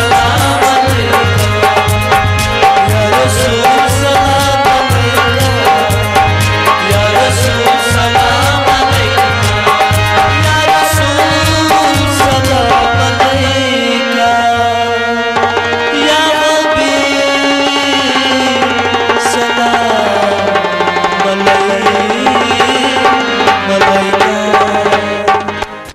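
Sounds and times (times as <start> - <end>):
tabla strokes: 0.0 - 14.0, 17.8 - 25.9
harmonium: 0.0 - 25.9
man singing devotional song: 0.0 - 25.9.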